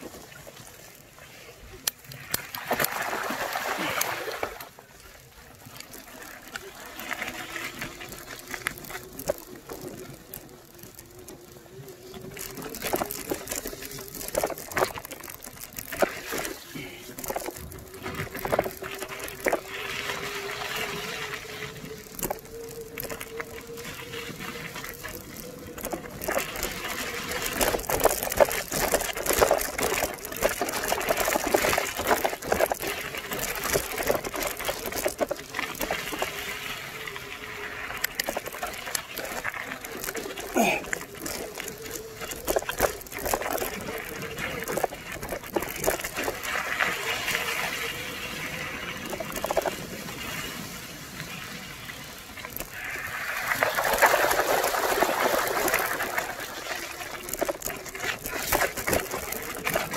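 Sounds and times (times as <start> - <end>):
bicycle tyres crunching on gravel: 0.0 - 59.9
bike rattling over bumps: 5.4 - 59.9.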